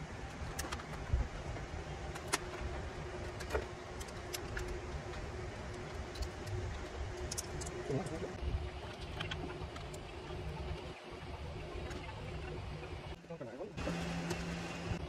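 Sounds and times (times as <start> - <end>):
faint hum: 0.0 - 15.0
low steady rumble: 0.0 - 15.0.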